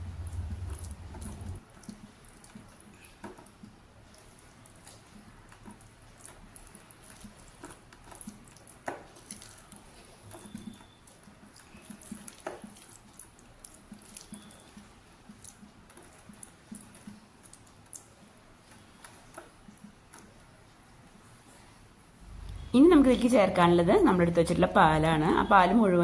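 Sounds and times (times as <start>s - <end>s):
wet squelching of hands in food: 0.0s - 23.2s.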